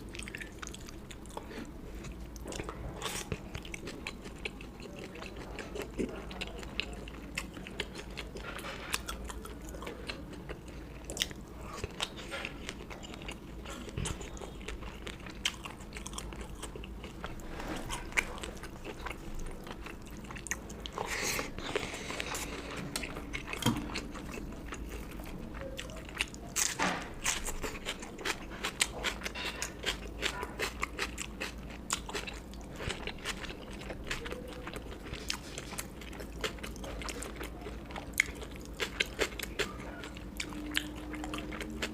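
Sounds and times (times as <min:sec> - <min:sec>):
food crunching: 0:00.0 - 0:41.9
person chewing food: 0:00.0 - 0:41.9.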